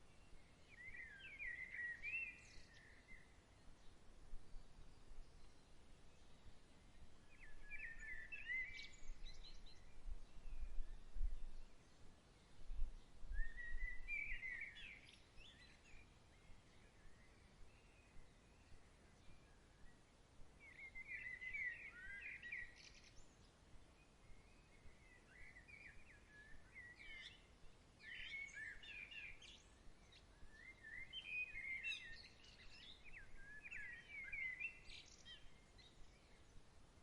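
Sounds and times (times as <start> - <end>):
bird chirping: 0.0 - 20.0, 20.6 - 36.7
soft steady hiss: 0.0 - 37.0.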